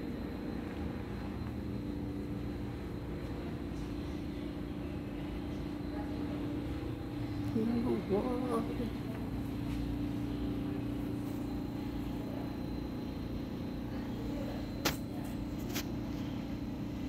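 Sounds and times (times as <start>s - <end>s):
low mechanical room hum: 0.0s - 17.0s.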